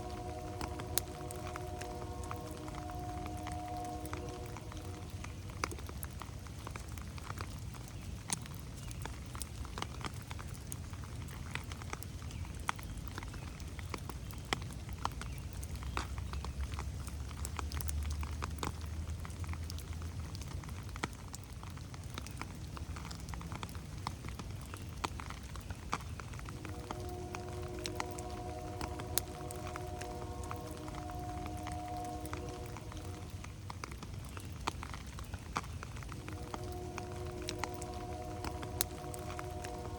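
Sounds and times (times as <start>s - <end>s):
rain on foliage: 0.0s - 39.9s
raindrops ticking: 0.0s - 39.9s.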